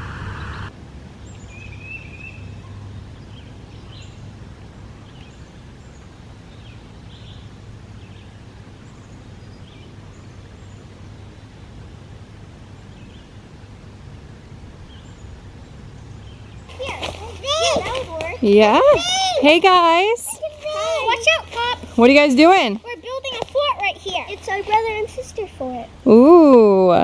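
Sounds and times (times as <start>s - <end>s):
background hiss: 0.0s - 27.0s
low hum: 0.0s - 27.0s.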